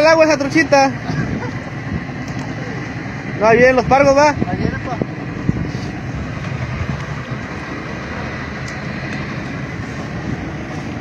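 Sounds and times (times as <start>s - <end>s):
steady rushing noise on boat: 0.0s - 11.0s.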